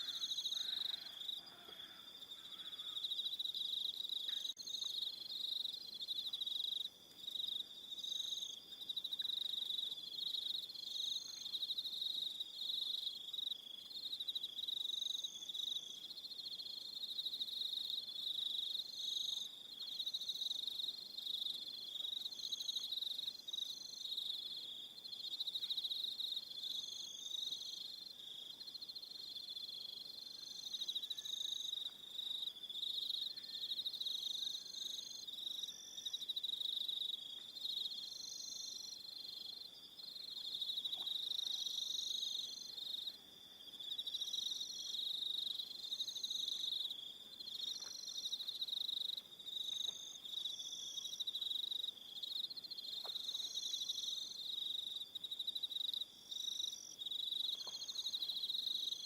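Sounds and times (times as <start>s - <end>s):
crickets chirping bursts: 0.0s - 59.0s
crickets trilling: 0.0s - 59.0s.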